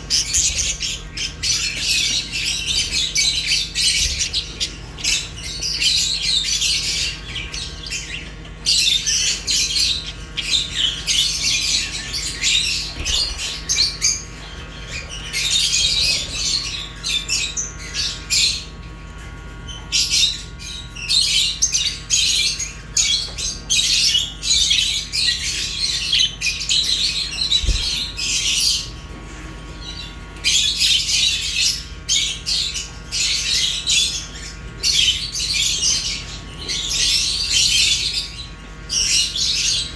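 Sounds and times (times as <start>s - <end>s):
small parrots chirping and squawking: 0.0s - 39.9s
steady low hum: 0.0s - 39.9s.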